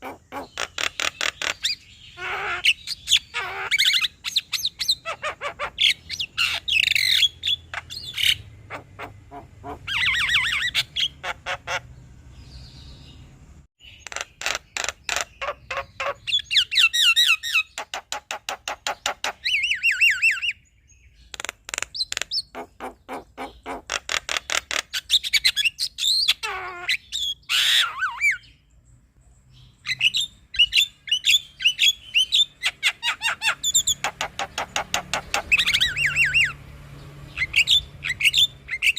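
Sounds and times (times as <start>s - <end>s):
myna bird singing: 0.0s - 38.9s.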